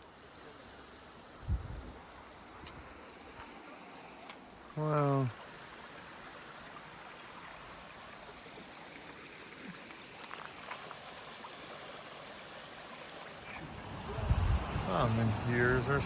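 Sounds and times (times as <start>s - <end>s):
stream water flowing: 0.0s - 16.0s.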